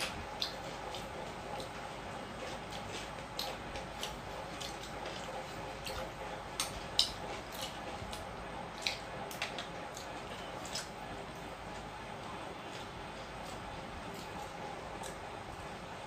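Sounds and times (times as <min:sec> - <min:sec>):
wet chewing and lip smacks: 0:00.0 - 0:15.6
fingers squishing food: 0:00.0 - 0:16.0.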